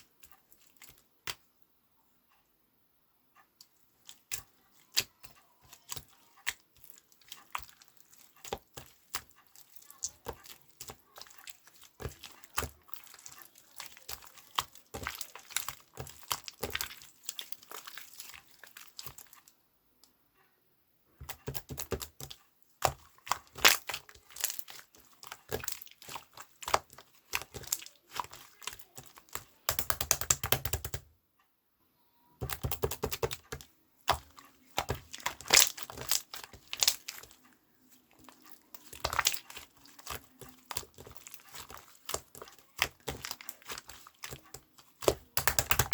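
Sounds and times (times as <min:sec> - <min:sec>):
crinkling and crackling handling: 0:03.7 - 0:19.6, 0:21.2 - 0:31.0, 0:32.4 - 0:45.9.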